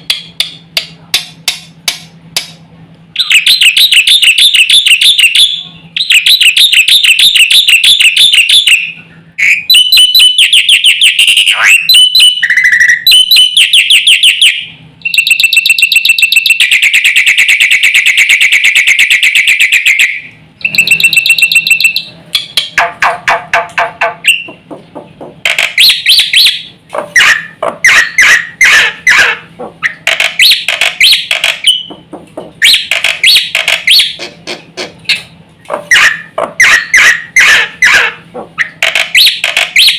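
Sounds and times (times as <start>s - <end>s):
bird singing: 3.2s - 35.3s.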